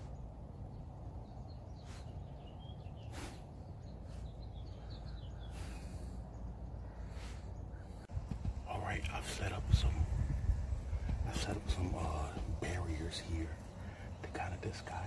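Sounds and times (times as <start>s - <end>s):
low outdoor background rumble: 0.0s - 15.0s
small birds chirping: 0.0s - 15.0s.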